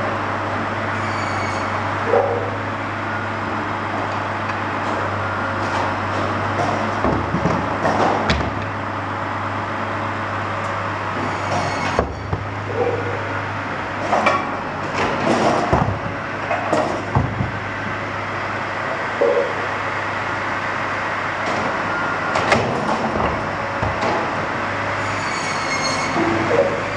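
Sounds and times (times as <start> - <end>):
firewood processor hum: 0.0 - 26.9.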